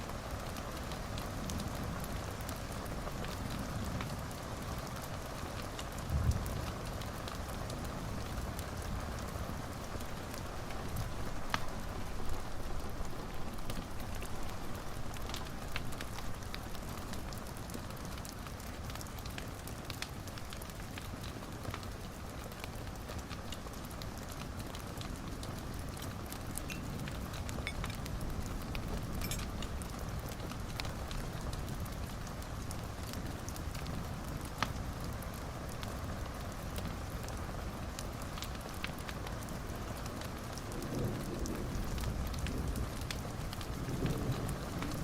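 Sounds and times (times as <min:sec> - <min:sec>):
fire crackling and popping: 0:00.0 - 0:45.0
fire rushing and hissing: 0:00.0 - 0:45.0.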